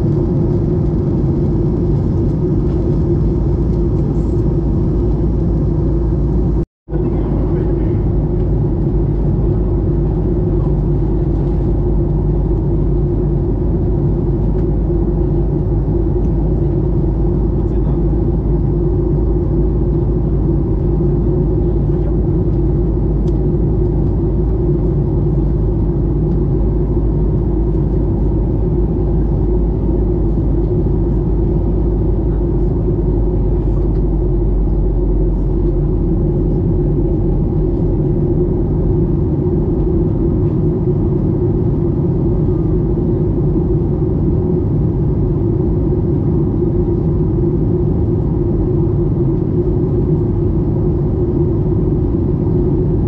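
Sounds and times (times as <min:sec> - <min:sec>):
airplane cabin engine drone: 0:00.0 - 0:53.0.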